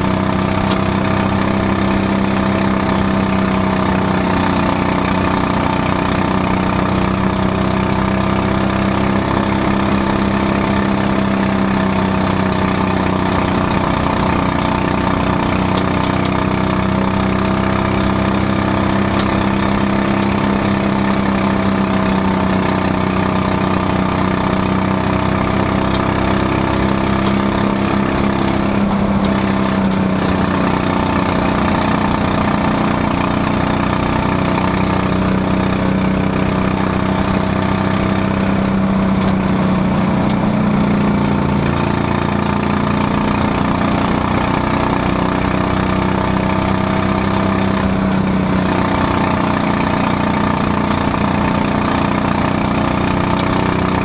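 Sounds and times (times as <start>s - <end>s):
small race car engine: 0.0s - 54.0s.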